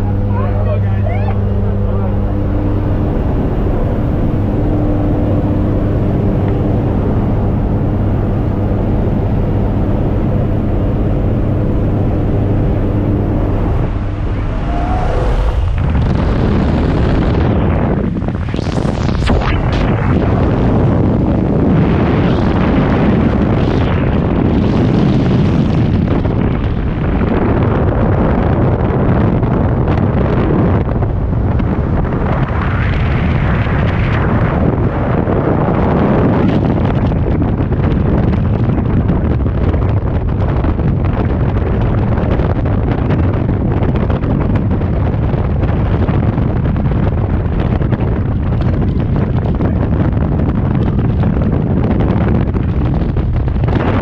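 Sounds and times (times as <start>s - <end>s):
wind blasting over microphone: 0.0s - 54.0s.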